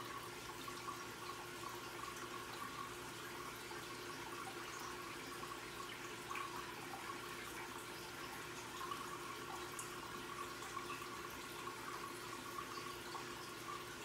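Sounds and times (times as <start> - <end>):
water drips: 0.0 - 14.0
water trickling and bubbling: 0.0 - 14.0.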